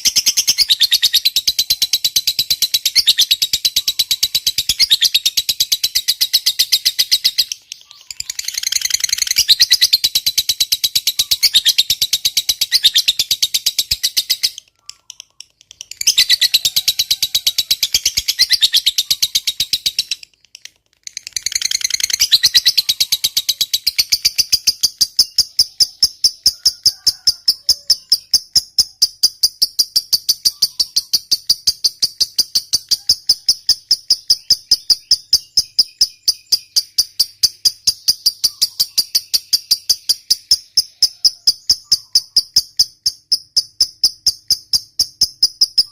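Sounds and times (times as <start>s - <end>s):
lovebird chattering trill: 0.0s - 45.9s.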